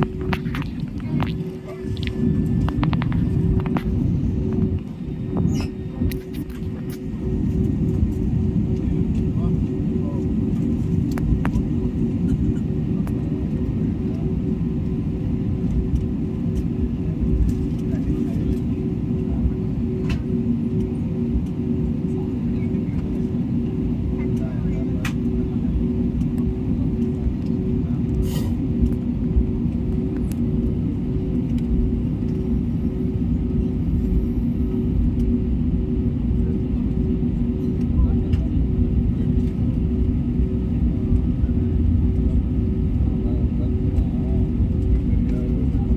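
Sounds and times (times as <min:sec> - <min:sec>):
aircraft cabin rumble and hum: 0:00.0 - 0:45.9.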